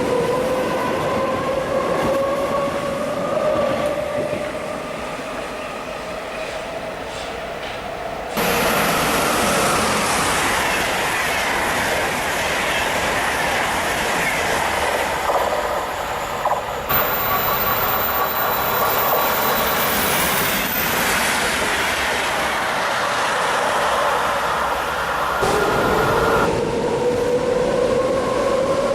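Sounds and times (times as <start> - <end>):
train passing at speed: 0.0 - 28.9.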